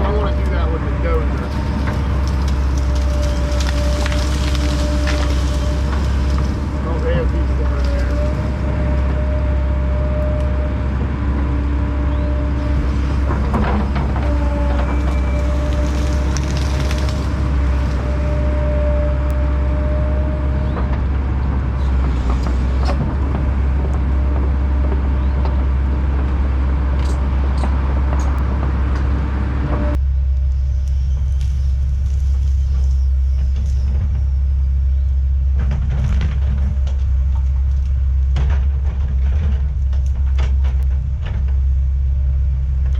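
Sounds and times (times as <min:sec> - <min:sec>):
diesel machinery rumbling: 0:00.0 - 0:42.9
machinery whine: 0:00.0 - 0:42.9.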